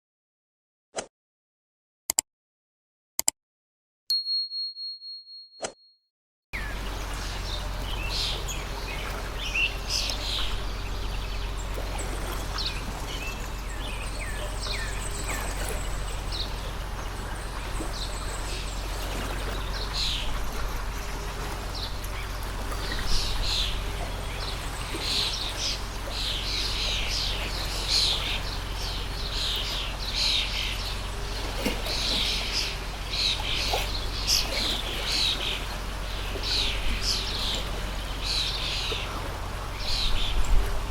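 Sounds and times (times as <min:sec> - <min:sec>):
birds chirping: 0:06.6 - 0:40.9
stream water flowing: 0:06.6 - 0:40.9.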